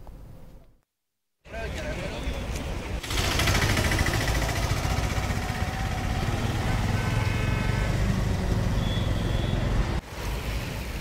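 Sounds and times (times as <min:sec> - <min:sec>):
vehicle engines rumbling: 0:01.5 - 0:11.0.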